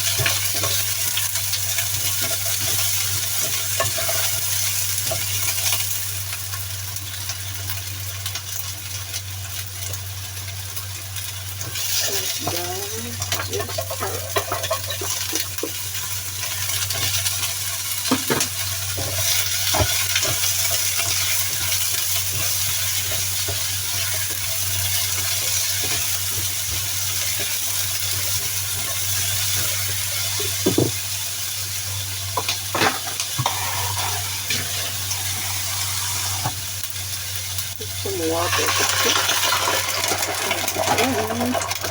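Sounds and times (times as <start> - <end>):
food sizzling in frying pan: 0.0 - 41.9.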